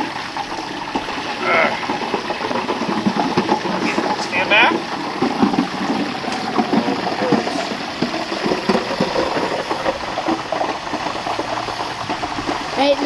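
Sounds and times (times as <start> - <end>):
oil bubbling and crackling: 0.0 - 13.0.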